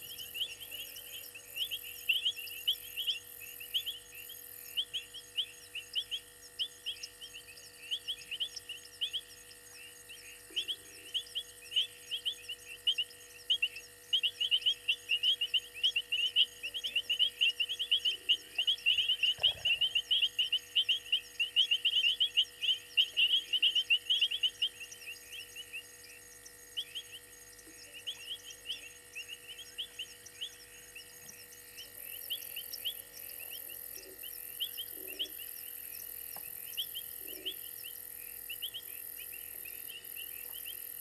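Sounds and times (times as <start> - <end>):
frogs chirping: 0.0 - 41.0.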